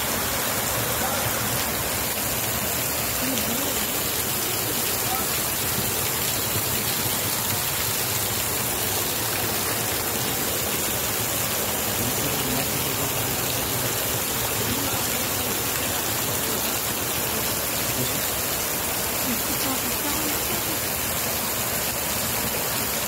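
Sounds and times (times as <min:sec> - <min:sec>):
heavy rain splashing into water: 0:00.0 - 0:23.0.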